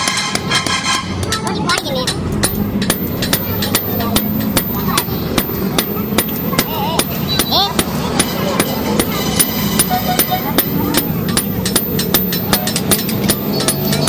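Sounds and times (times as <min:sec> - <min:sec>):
hammer striking metal on anvil: 0:00.0 - 0:14.0.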